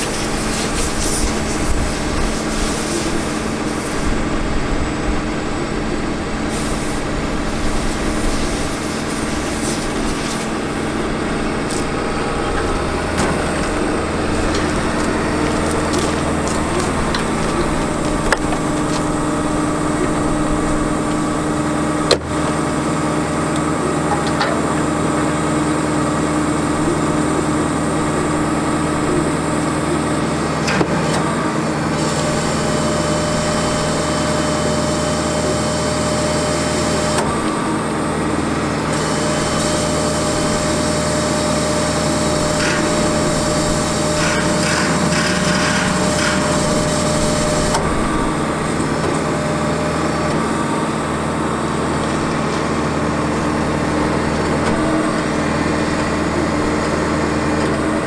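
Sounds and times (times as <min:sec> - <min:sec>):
diesel engine running: 0:00.0 - 0:58.0
hydraulic whine: 0:00.0 - 0:58.0.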